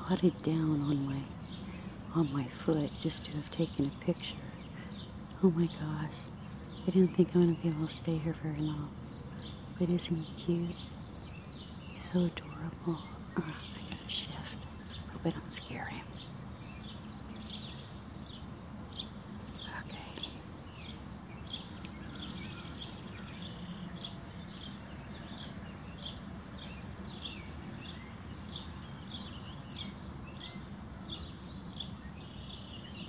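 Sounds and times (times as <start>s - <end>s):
low background hum: 0.0s - 33.0s
small birds chirping: 0.0s - 33.0s.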